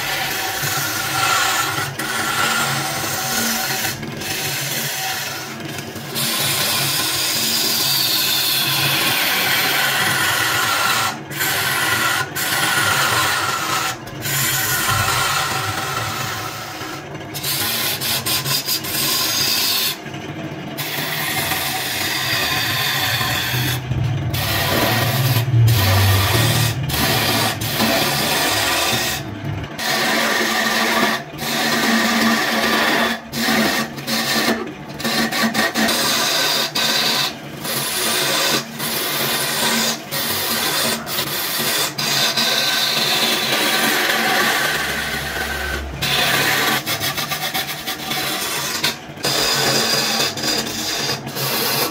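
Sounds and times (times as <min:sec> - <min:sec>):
chisel scraping wood: 0:00.0 - 0:05.5, 0:06.2 - 0:20.0, 0:20.8 - 0:29.2, 0:29.8 - 0:51.9
lathe running hum: 0:00.0 - 0:51.9.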